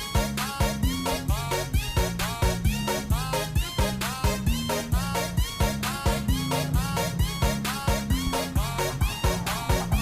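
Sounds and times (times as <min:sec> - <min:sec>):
upbeat music with bass line: 0:00.0 - 0:10.0.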